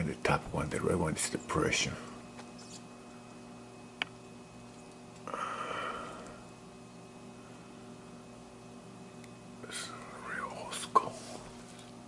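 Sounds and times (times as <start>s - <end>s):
low equipment hum: 0.0s - 12.0s.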